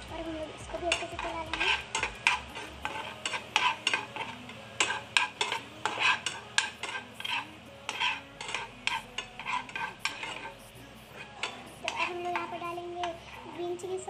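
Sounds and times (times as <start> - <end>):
spoon scraping frying pan: 0.0 - 14.0.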